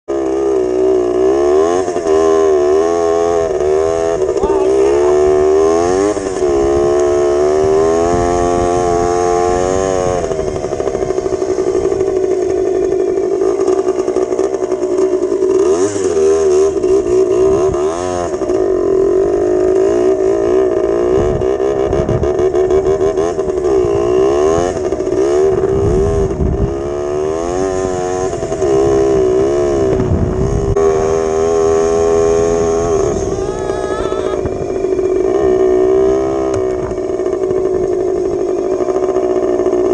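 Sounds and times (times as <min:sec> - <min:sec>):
two-stroke motorcycle engine revving: 0:00.1 - 0:39.9.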